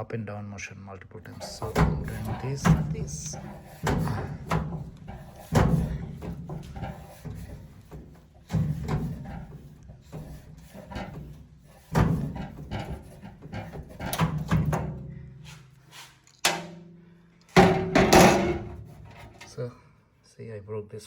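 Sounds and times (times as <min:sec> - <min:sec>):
knocks and clanks on metal: 0:01.3 - 0:15.3, 0:16.4 - 0:19.5.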